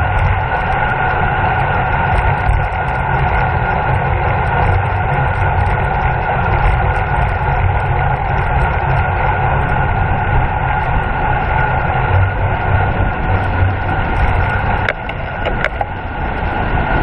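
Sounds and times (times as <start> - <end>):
bicycle road rumble: 0.0 - 17.0
wind rush: 0.0 - 17.0.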